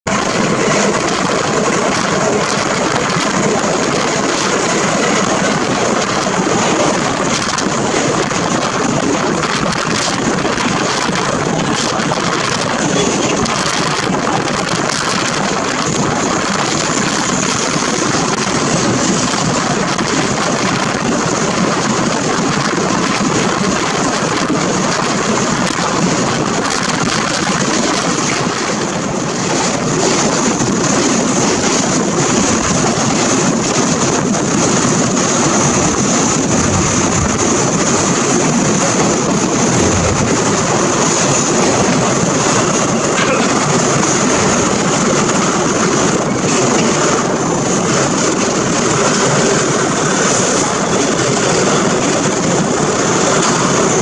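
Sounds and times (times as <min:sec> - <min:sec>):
train wheels on rails: 0:00.0 - 0:54.0
wind rushing: 0:00.1 - 0:54.0.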